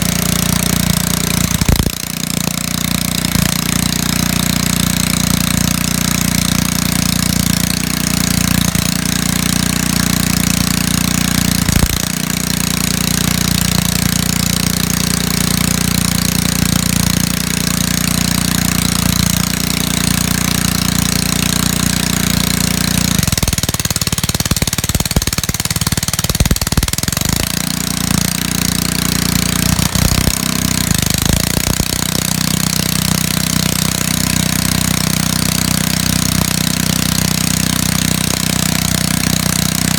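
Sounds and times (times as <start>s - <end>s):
petrol generator running: 0.0s - 39.9s.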